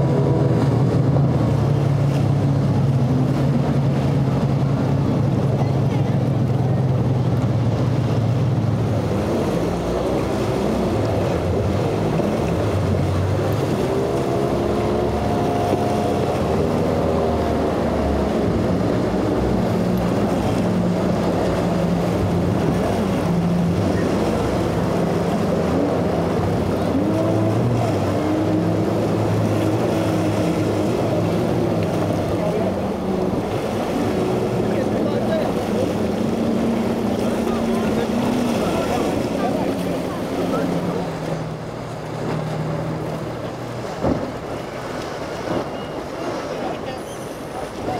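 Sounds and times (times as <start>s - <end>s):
outboard motors running: 0.0s - 47.9s
rushing water and spray: 0.0s - 47.9s.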